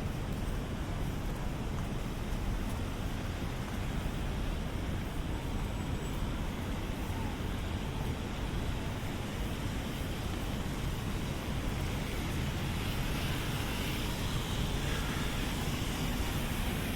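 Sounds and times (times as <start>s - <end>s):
traffic rumble: 0.0s - 16.9s
rain hiss: 1.0s - 16.9s.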